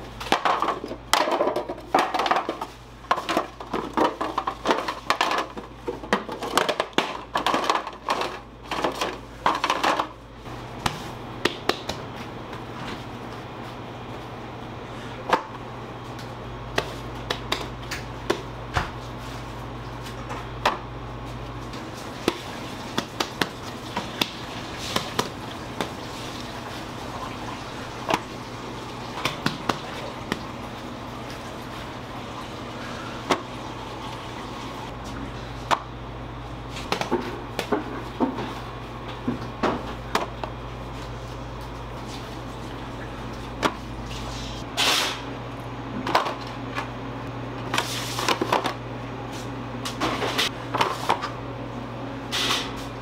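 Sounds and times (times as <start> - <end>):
machine hum: 0.0 - 53.0.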